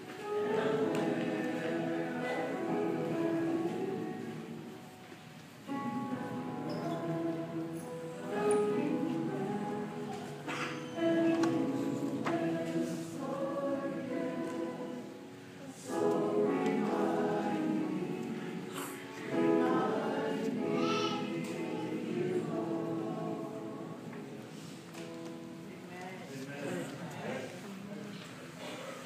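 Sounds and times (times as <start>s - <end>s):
small choir singing: 0.0s - 25.4s.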